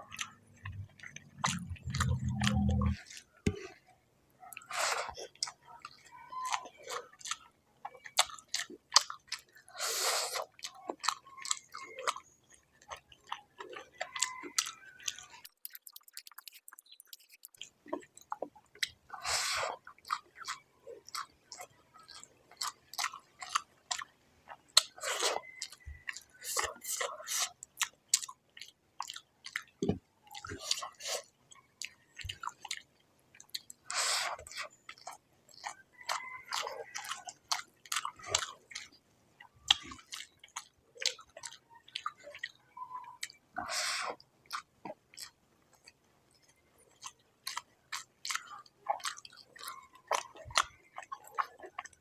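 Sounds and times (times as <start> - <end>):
person chewing with wet mouth smacks: 0.0 - 3.8, 4.4 - 52.0.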